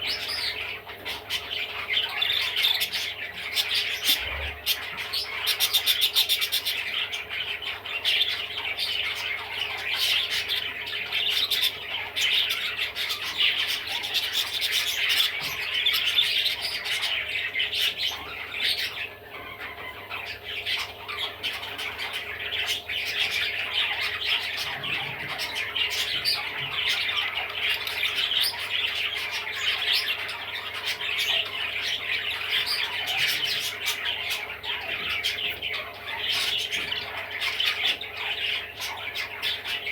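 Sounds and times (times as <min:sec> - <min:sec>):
budgerigar chattering: 0:00.0 - 0:39.9.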